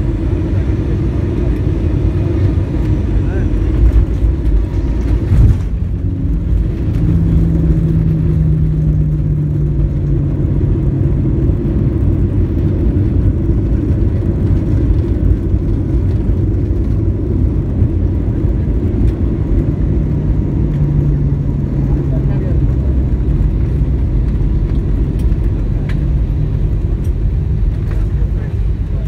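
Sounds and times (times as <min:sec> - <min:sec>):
airliner wheels and engines rumbling: 0:00.0 - 0:29.0.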